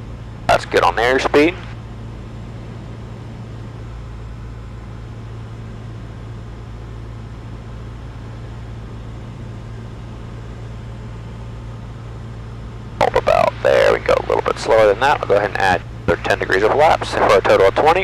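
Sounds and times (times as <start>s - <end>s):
airplane engine and propeller droning: 0.0s - 18.0s.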